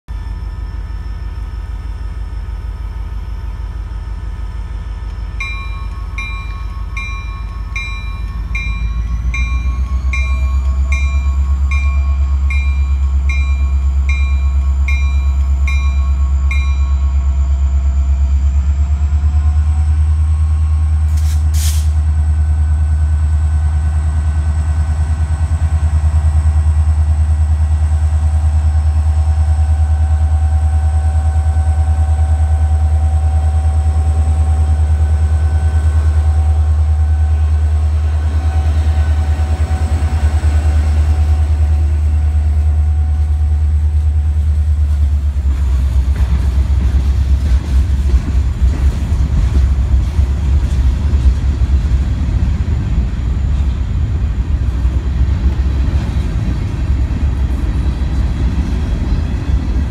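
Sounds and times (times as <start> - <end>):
diesel locomotive engine rumble: 0.0 - 59.9.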